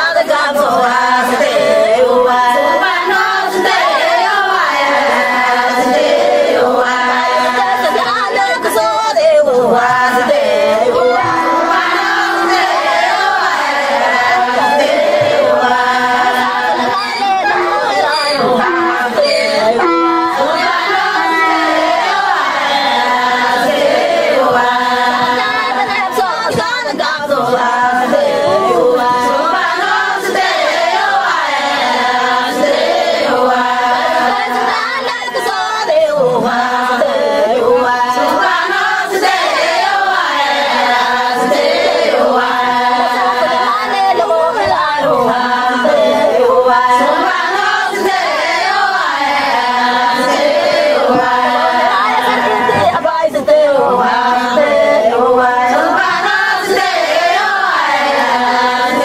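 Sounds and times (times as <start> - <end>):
choir singing: 0.0 - 59.0
held accompaniment tones: 0.0 - 59.0.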